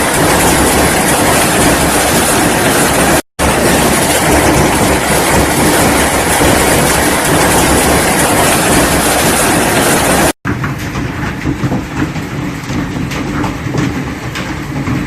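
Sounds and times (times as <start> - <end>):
hail on hard surfaces: 0.0 - 15.0.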